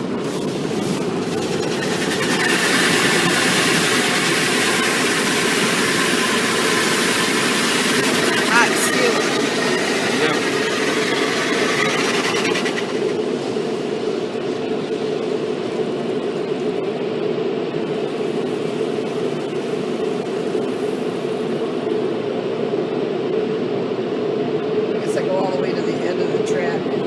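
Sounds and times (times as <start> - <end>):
car wash machinery drone: 0.0 - 27.0.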